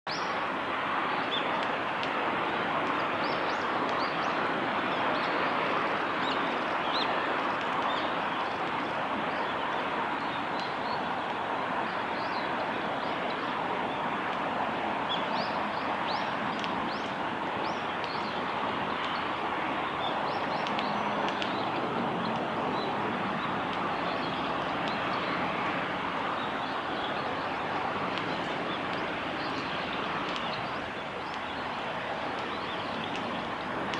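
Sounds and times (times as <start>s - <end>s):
steady background roar: 0.1s - 33.9s
small birds chirping: 2.9s - 33.9s.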